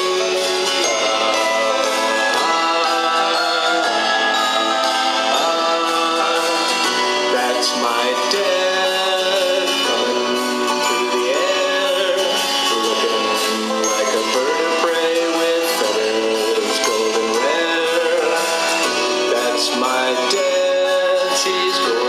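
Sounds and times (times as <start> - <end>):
live band playing: 0.0 - 22.0
sliding melody line: 0.0 - 22.0.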